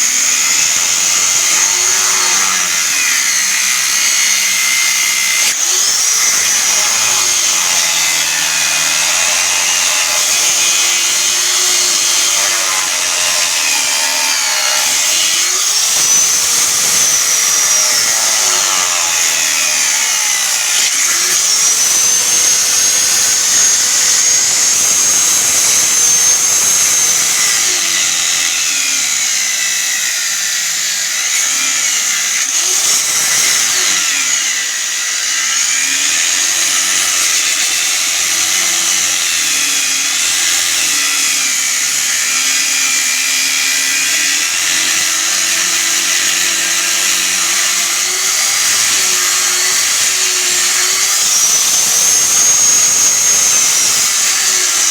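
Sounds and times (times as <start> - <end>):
power grinder grinding steel: 0.0 - 54.9.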